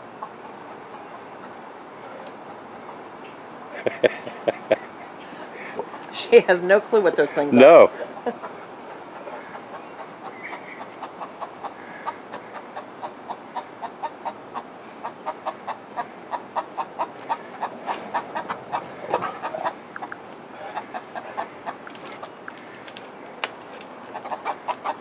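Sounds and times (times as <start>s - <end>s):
hens clucking softly: 0.0s - 6.3s, 6.9s - 25.0s.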